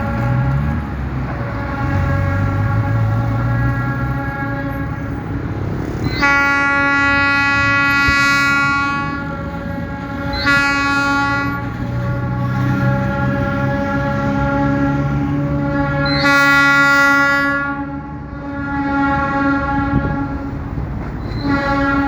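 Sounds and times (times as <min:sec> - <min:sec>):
locomotive horn blasts: 0:00.0 - 0:22.0.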